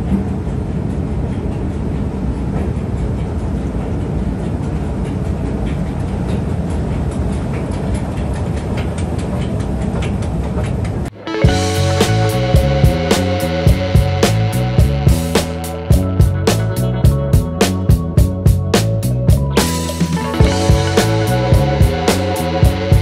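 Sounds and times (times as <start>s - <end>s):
escalator rumbling: 0.0s - 23.0s
underground station hum: 0.0s - 23.0s.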